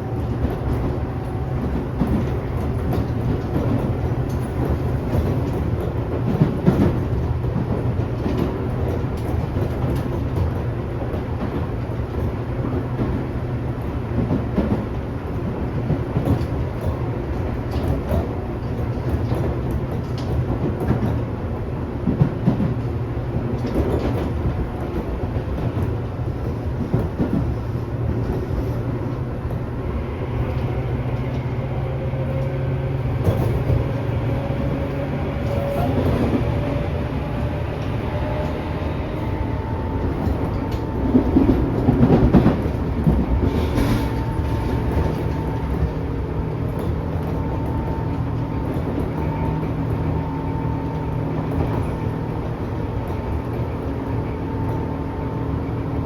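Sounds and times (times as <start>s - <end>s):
train wheel and motor rumble: 0.0s - 56.0s.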